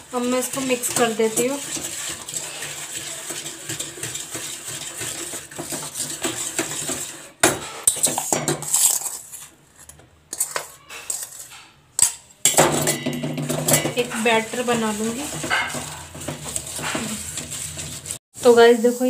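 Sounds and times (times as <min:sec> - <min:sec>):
wire whisk scraping a steel pan: 0:00.0 - 0:18.2.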